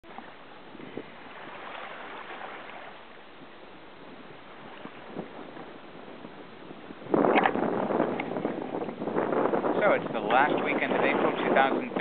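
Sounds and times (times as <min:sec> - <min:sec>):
water lapping against kayak hull: 0:00.0 - 0:12.0
wind buffeting microphone: 0:00.0 - 0:12.0.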